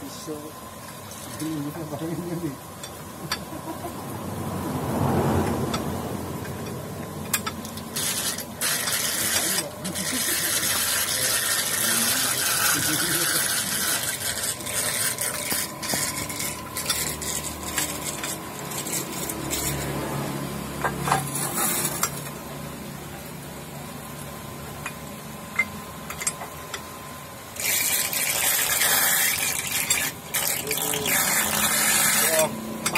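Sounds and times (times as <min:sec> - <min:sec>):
water hissing and rushing: 0:00.0 - 0:22.3, 0:27.5 - 0:32.9.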